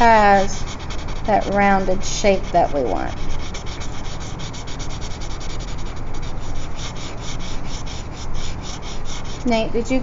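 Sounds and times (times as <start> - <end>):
pencil shading on paper: 0.0 - 9.9.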